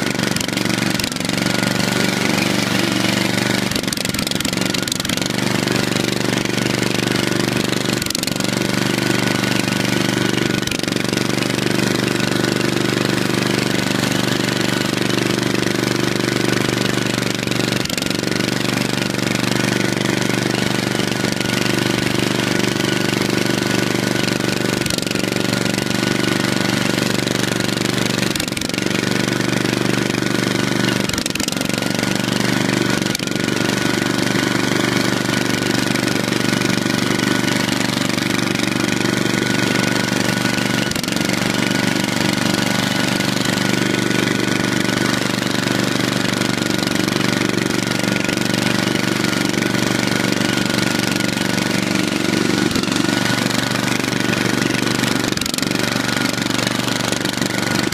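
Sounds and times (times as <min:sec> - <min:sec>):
lawn tractor engine running: 0:00.0 - 0:57.9.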